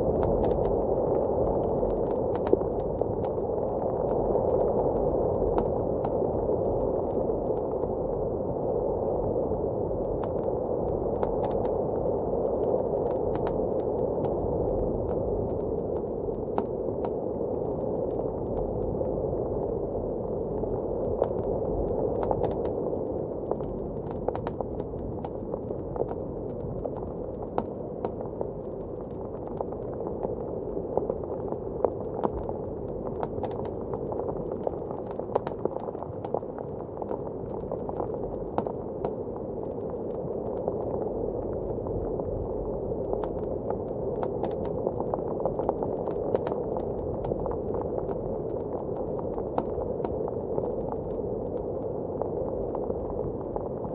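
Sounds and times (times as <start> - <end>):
wood fire crackling and popping: 0.0 - 7.8, 10.0 - 19.0, 19.9 - 41.8, 42.6 - 52.3
muffled blizzard wind: 0.0 - 53.9.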